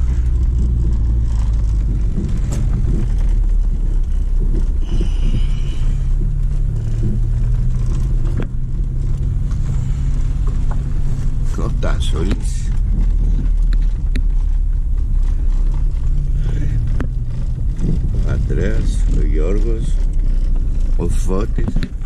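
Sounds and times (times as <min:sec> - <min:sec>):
car engine running low: 0:00.0 - 0:22.0
car rolling over dirt track: 0:00.0 - 0:22.0.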